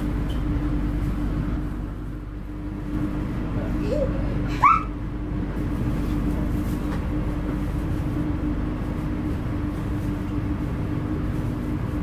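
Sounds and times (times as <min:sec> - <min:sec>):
constant hum: 0:00.0 - 0:12.0
train rumble from inside: 0:00.0 - 0:12.0.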